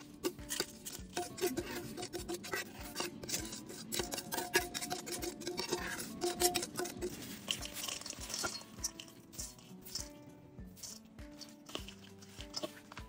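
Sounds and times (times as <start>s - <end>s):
paste scraped from blender jug: 0.0s - 10.2s, 10.8s - 13.0s.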